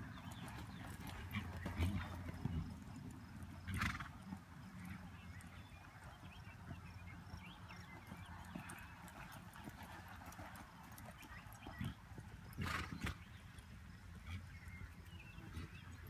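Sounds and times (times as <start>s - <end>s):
horse hoofbeats on dirt: 0.0s - 16.0s.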